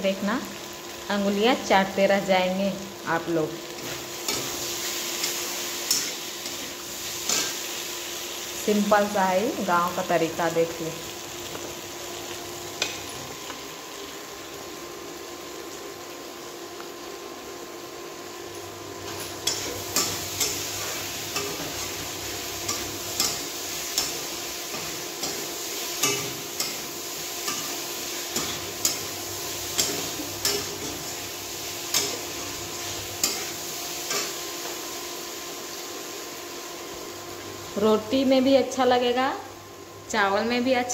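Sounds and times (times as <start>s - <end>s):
chunks sizzling in a pan: 0.0s - 40.9s.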